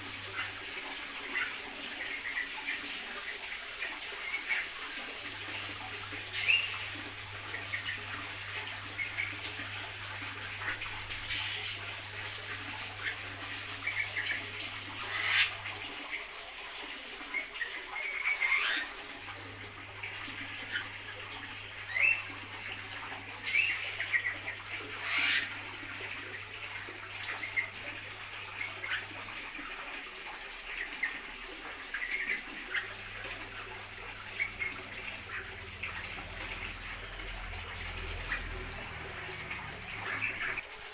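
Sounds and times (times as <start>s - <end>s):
birds chirping and calling: 0.2s - 40.6s.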